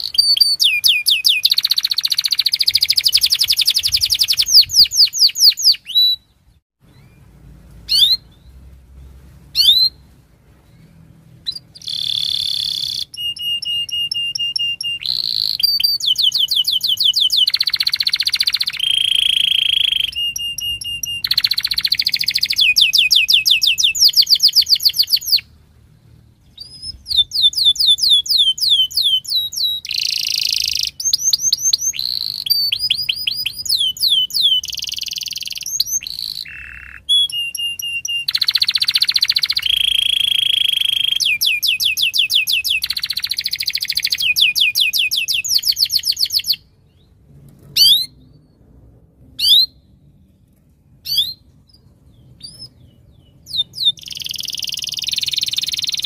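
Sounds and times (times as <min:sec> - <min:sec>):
canary singing trills: 0:00.0 - 0:25.5, 0:26.4 - 0:47.1, 0:51.0 - 0:56.0.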